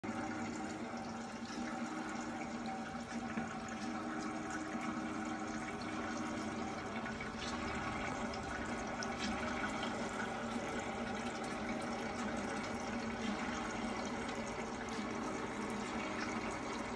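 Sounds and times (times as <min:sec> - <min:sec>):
water pattering into basin: 0:00.0 - 0:16.9.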